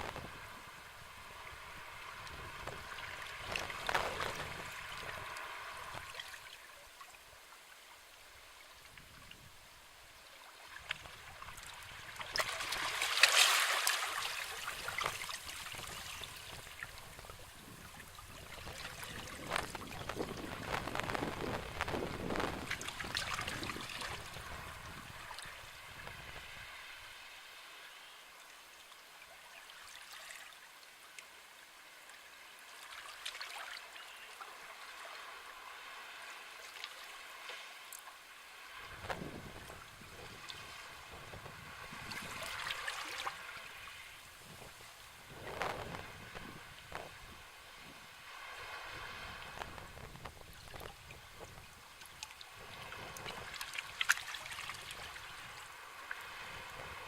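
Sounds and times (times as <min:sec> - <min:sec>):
sea waves washing ashore: 0:00.0 - 0:06.8, 0:10.4 - 0:28.5, 0:32.5 - 0:57.0.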